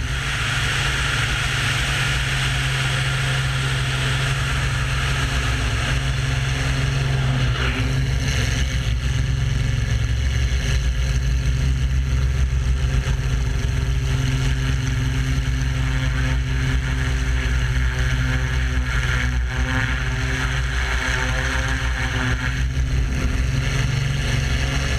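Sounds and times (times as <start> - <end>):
aircraft piston engine running: 0.0 - 24.9
wind rush over airframe: 0.0 - 24.9.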